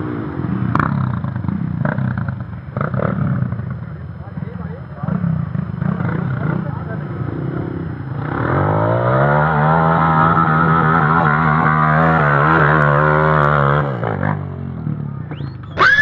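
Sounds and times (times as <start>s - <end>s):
off-road motorcycle engine revving: 0.0s - 16.0s.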